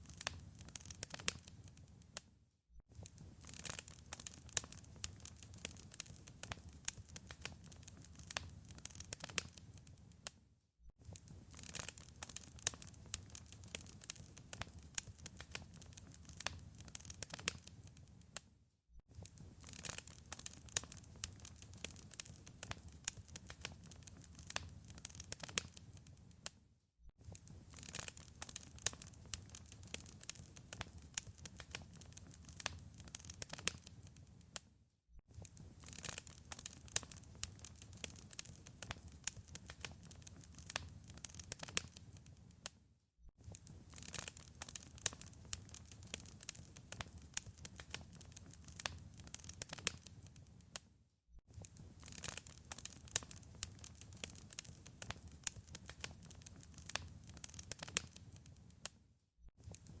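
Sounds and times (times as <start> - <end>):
fire popping and snapping: 0.0 - 2.2, 2.9 - 10.3, 11.0 - 18.4, 19.1 - 26.5, 27.2 - 34.6, 35.3 - 42.7, 43.4 - 50.8, 51.5 - 58.9, 59.6 - 60.0.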